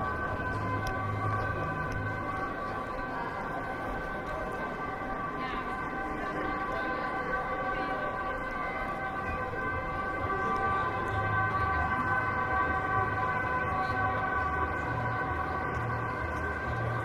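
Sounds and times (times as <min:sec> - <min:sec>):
low pulsing notes: 0:00.0 - 0:17.0
sustained chord of steady tones: 0:00.0 - 0:17.0.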